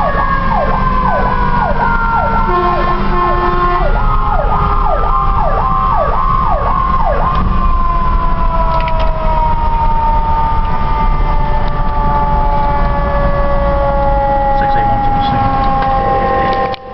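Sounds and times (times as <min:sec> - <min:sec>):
engine and road rumble: 0:00.0 - 0:16.9
siren tone sliding down: 0:00.0 - 0:16.9
siren yelp: 0:00.0 - 0:16.9.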